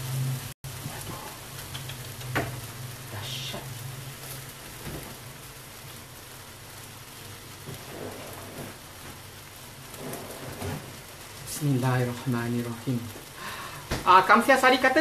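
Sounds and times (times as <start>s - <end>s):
noodles sizzling in a pan: 0.0s - 15.0s.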